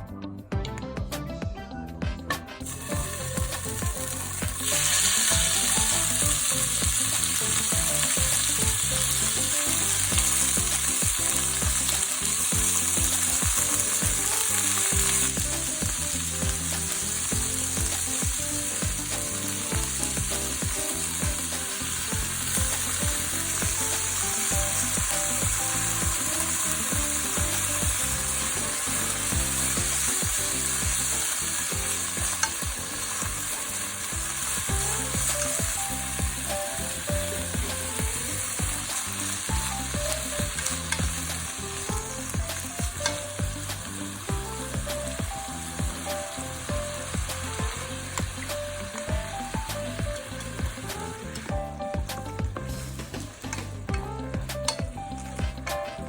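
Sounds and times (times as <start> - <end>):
food sizzling in a hot pan: 2.6 - 56.0.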